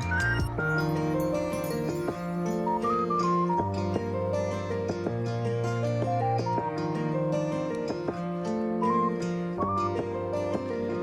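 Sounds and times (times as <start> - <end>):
plucked-string melody: 0.0 - 11.0.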